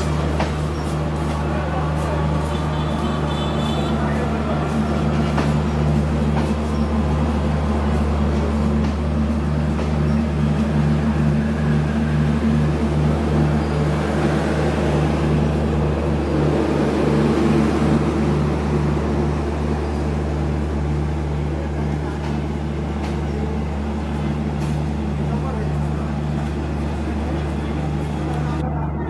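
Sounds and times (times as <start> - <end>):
pulsing diesel train drone: 0.0 - 29.0
wheels rumbling on rail: 0.0 - 29.0.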